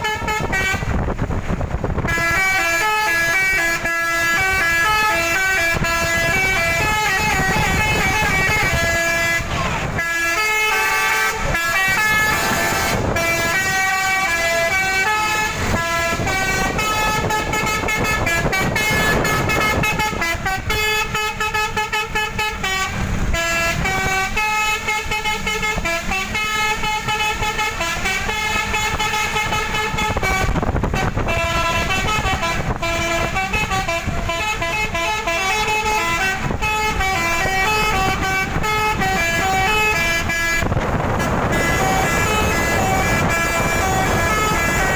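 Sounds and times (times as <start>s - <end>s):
bus multi-tone horn melody: 0.0s - 44.9s.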